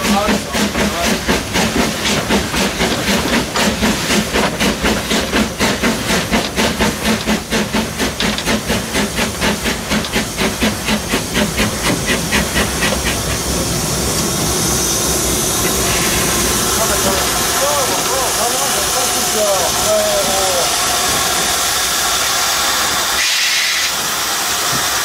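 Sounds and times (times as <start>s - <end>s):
steam locomotive exhaust chuffs: 0.0s - 25.0s.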